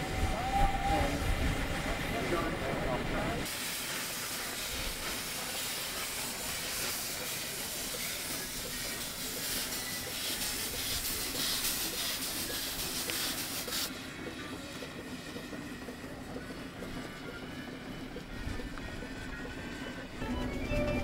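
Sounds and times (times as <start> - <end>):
steam hissing: 0.0 - 20.6
steam wagon running: 0.0 - 21.0.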